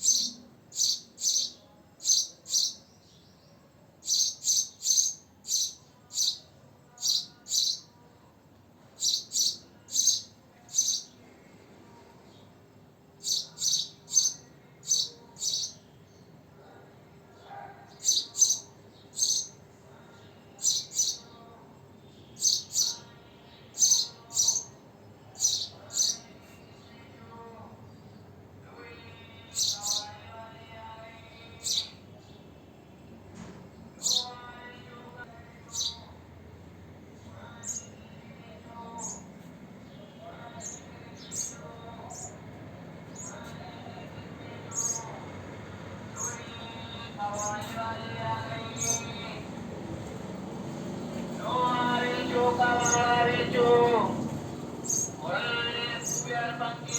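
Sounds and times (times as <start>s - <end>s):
sparrow chirping: 0.0s - 8.0s, 8.9s - 11.2s, 13.2s - 32.4s, 33.9s - 34.7s, 35.6s - 36.2s, 37.4s - 45.4s, 46.1s - 49.4s, 51.4s - 54.1s, 54.8s - 56.9s.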